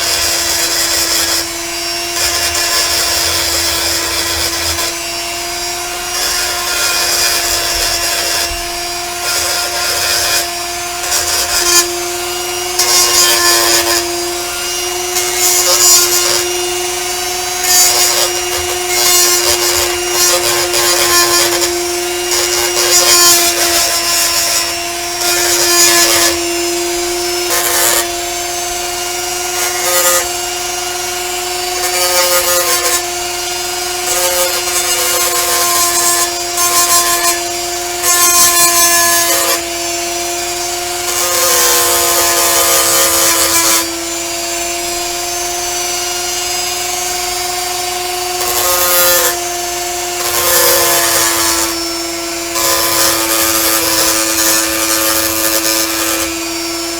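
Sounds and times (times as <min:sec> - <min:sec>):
bit grinding metal: 0:00.0 - 0:56.9
rotary tool whining: 0:00.0 - 0:56.9.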